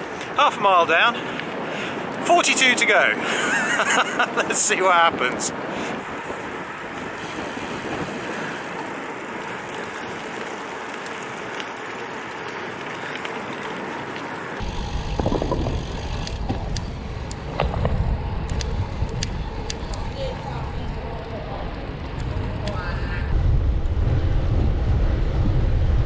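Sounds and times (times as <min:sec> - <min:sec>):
bike tyres rolling on gravel: 0:00.0 - 0:26.0
wind buffeting microphone: 0:02.9 - 0:11.0, 0:11.8 - 0:26.0.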